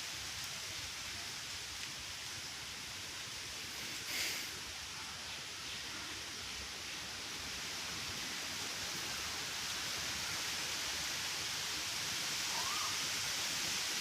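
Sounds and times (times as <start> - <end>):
steady even hiss: 0.0 - 14.0.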